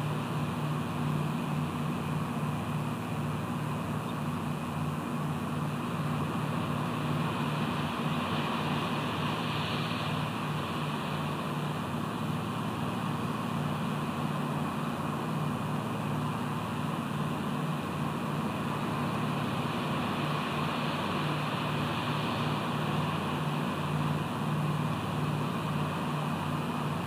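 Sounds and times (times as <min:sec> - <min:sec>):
continuous hiss: 0:00.0 - 0:27.0.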